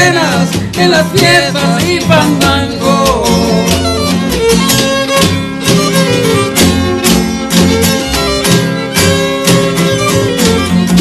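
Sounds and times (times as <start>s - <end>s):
band playing guitar bass percussion: 0.0s - 11.0s
violin melody: 0.0s - 11.0s.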